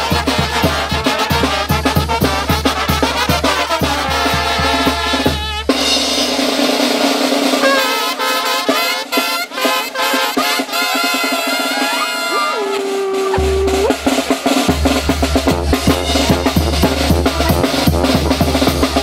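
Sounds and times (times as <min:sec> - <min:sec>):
snare drum rolls: 0:00.0 - 0:12.5, 0:13.1 - 0:19.0
brass band playing: 0:00.0 - 0:19.0.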